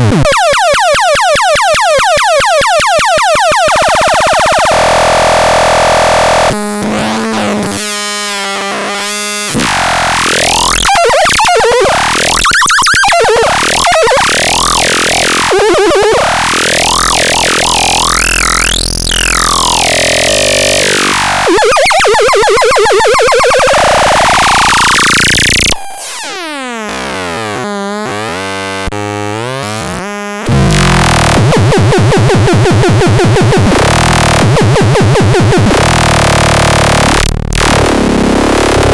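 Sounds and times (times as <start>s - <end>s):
harsh synthesizer noises: 0.0s - 38.9s.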